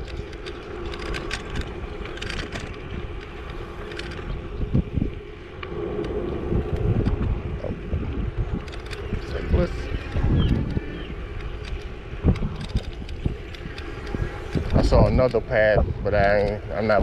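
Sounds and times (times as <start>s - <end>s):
light rattles and clicks: 0.0s - 17.0s
wind buffeting microphone: 0.0s - 17.0s.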